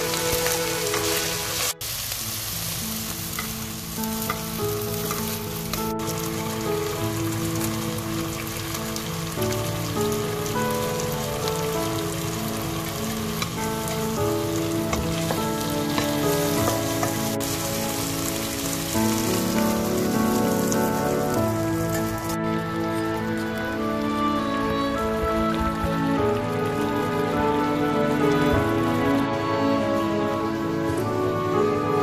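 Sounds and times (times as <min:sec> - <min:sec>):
melodic background music: 0:00.0 - 0:32.0
vegetables sizzling in a wok: 0:00.0 - 0:32.0.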